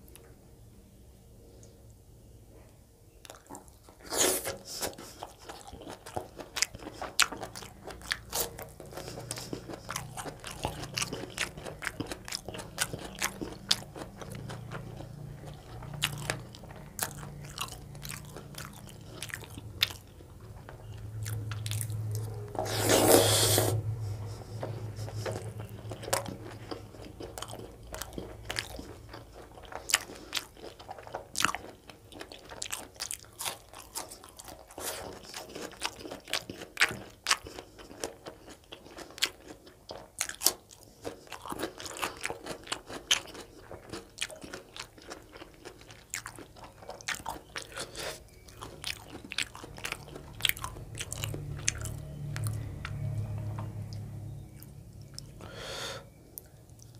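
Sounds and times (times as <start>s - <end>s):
man chewing food: 3.2s - 56.9s.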